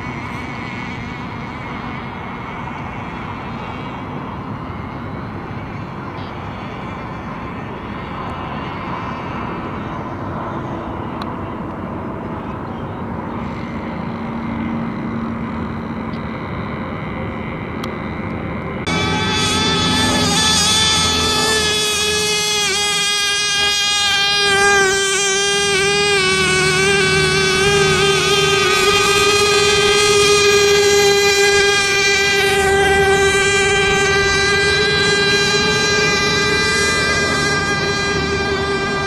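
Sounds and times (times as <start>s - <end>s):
model boat engines buzzing: 0.0s - 39.0s.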